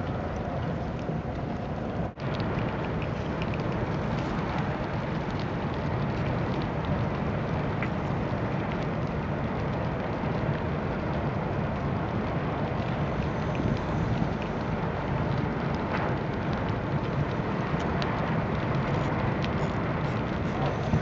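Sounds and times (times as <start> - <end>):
fire crackles and pops: 0.0 - 21.0
large fire roaring: 0.0 - 21.0.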